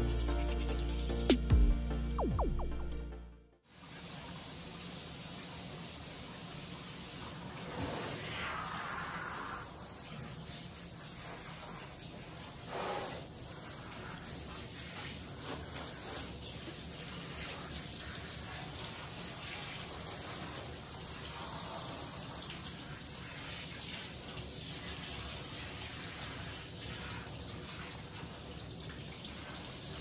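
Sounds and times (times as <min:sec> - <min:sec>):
water running from tap: 0:03.7 - 0:30.0.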